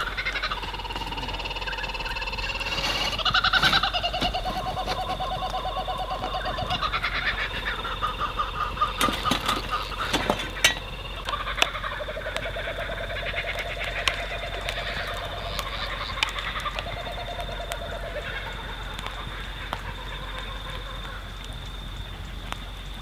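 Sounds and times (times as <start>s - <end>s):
animals calling in pulsed trills: 0.0s - 23.0s.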